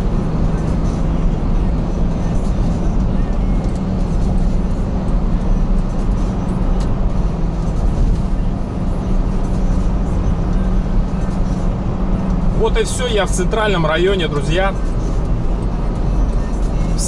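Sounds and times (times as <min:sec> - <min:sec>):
car interior engine and tyre drone: 0:00.0 - 0:17.0.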